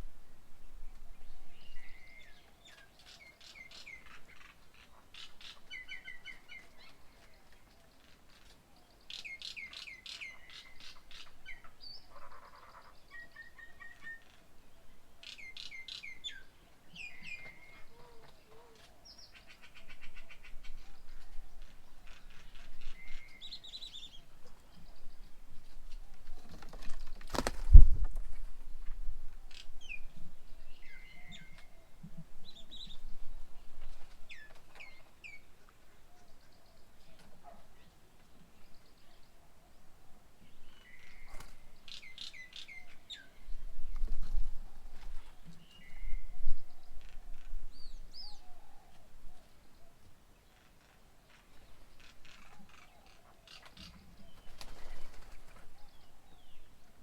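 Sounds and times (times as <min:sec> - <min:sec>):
birds chirping and calling: 0:00.9 - 0:28.4, 0:29.4 - 0:57.0.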